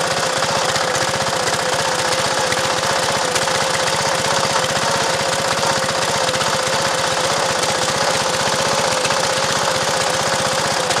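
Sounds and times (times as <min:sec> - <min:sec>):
small gasoline engine chugging: 0:00.0 - 0:11.0.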